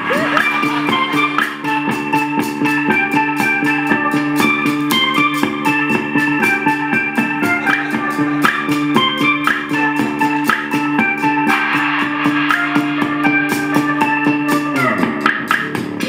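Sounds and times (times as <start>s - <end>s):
electronic dance music: 0.0s - 16.0s.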